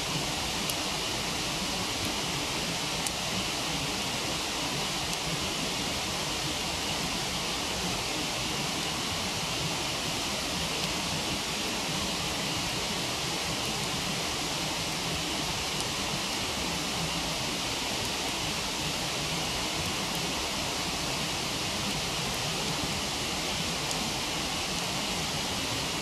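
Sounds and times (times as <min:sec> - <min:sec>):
campfire crackles: 0:00.0 - 0:26.0.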